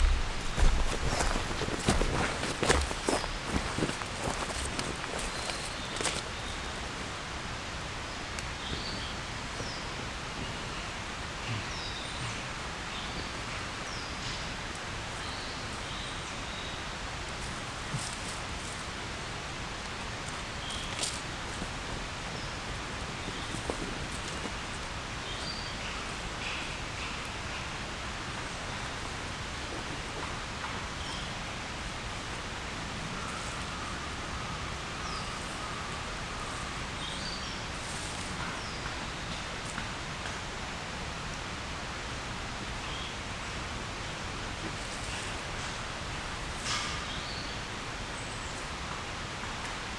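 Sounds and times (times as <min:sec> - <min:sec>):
rain falling in forest: 0:00.0 - 0:49.9.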